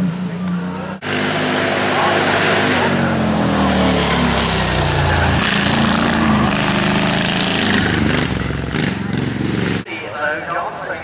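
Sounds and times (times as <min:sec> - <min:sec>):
racing car engine revving: 0:00.2 - 0:09.9.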